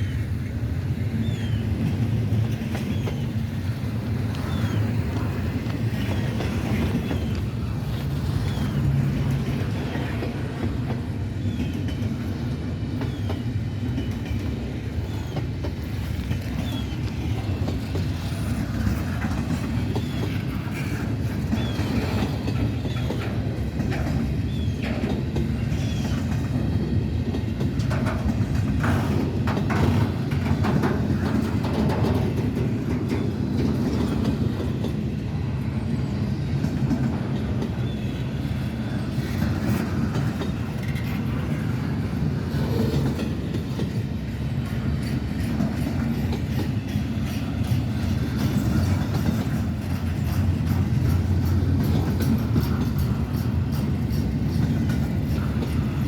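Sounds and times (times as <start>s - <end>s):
railcars rumbling past: 0.0s - 56.0s
wheels clicking over rail joints: 1.1s - 56.0s.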